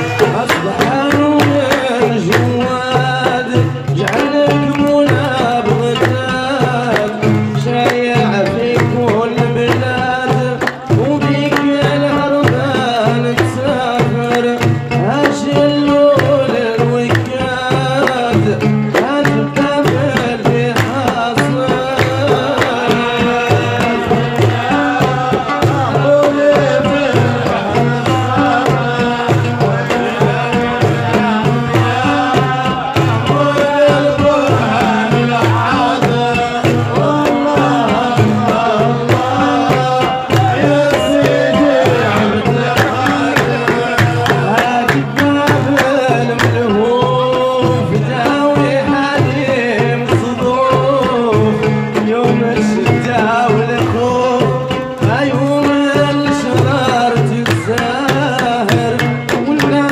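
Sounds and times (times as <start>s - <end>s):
hand claps: 0.0s - 48.6s, 53.8s - 59.9s
barrel drum beat: 0.0s - 59.9s
men singing: 0.0s - 59.9s.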